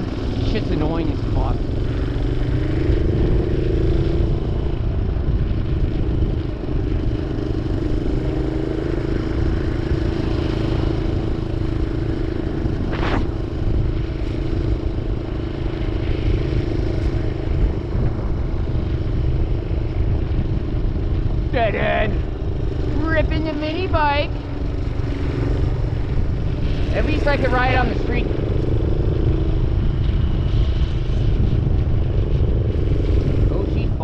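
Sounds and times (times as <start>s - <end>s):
minibike engine running: 0.0s - 34.0s.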